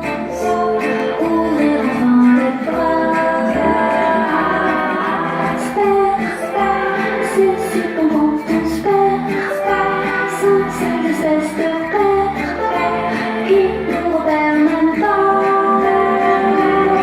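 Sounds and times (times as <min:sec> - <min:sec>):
instrumental accompaniment with bass: 0:00.0 - 0:17.0
woman singing: 0:00.0 - 0:17.0.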